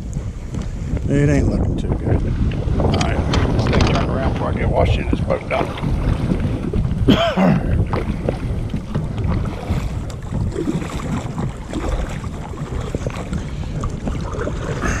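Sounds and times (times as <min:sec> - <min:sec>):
water slapping against kayak hull: 0:00.0 - 0:15.0
wind buffeting microphone: 0:00.0 - 0:15.0.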